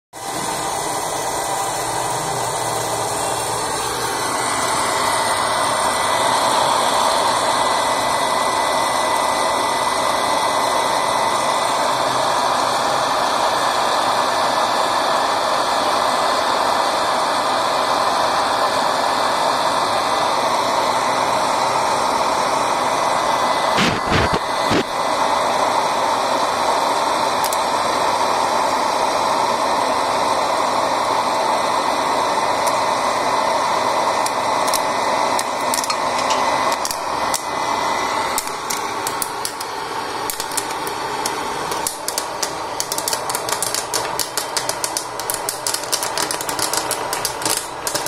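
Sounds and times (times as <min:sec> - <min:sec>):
popcorn maker fan whirring: 0:00.1 - 0:48.0.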